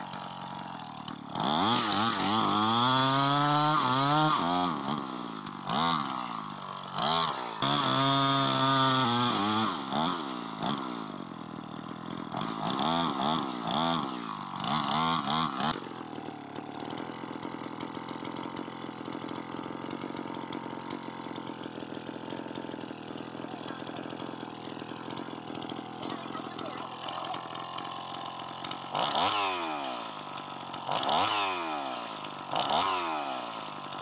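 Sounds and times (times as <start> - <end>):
chainsaw revving: 0.0 - 34.0.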